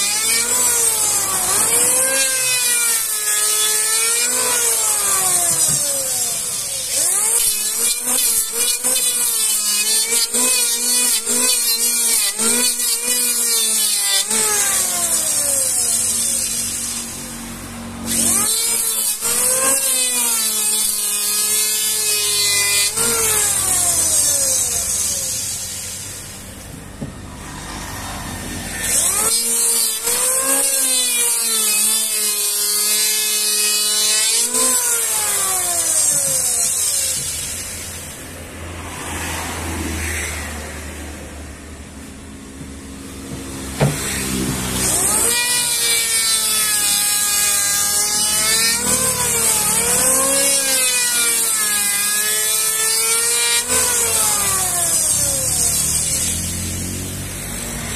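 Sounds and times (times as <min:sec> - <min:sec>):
electric planer shaving wood: 0:00.0 - 0:57.9.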